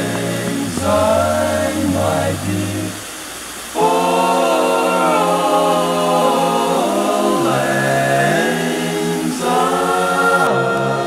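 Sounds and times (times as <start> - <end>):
choir singing sustained chords: 0.0 - 11.0.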